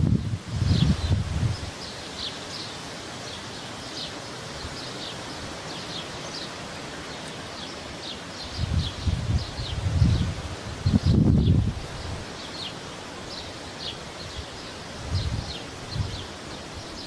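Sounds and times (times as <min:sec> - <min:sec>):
light wind hiss: 0:00.0 - 0:17.0.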